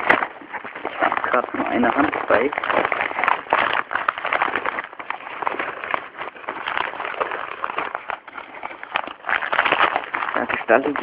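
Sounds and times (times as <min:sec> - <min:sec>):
parcel packaging crackling: 0:00.0 - 0:11.0.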